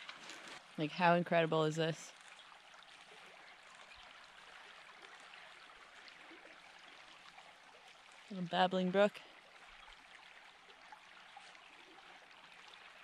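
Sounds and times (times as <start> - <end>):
small brook babbling: 0.0 - 13.0.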